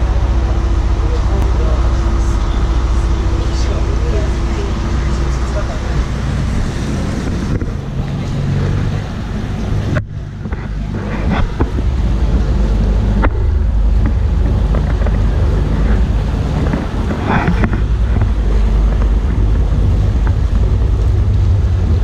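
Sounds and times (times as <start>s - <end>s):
boat engine drone: 0.0s - 22.0s
sea wash: 0.0s - 22.0s
wind buffeting microphone: 0.0s - 22.0s.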